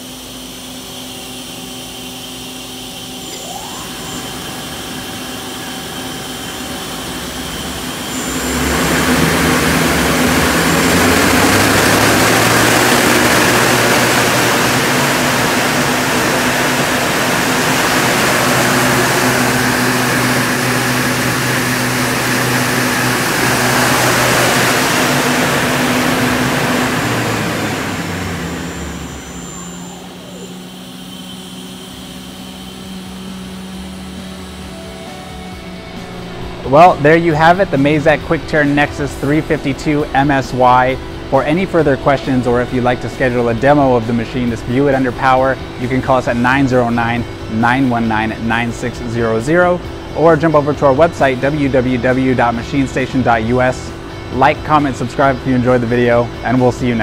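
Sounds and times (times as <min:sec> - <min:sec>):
lathe spindle humming and rushing: 0:00.0 - 0:57.0.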